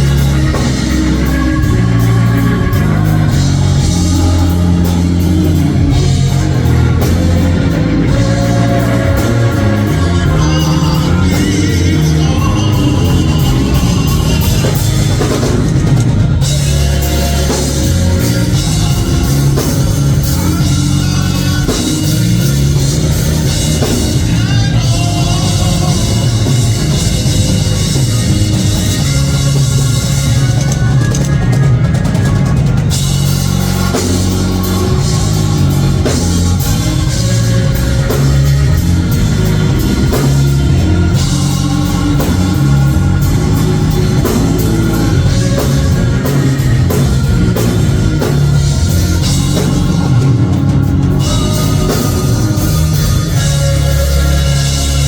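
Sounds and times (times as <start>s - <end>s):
band playing drums and guitar: 0.0s - 55.0s.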